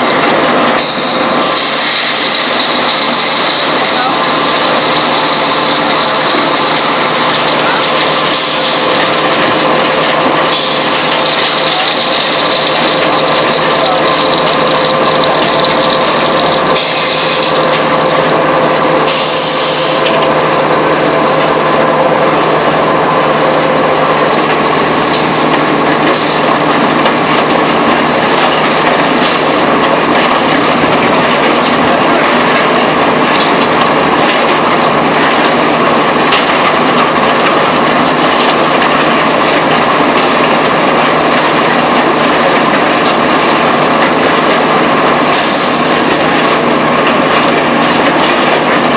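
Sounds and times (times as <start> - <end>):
constant machine hum: 0.0 - 48.9
machinery clatter: 0.0 - 48.9.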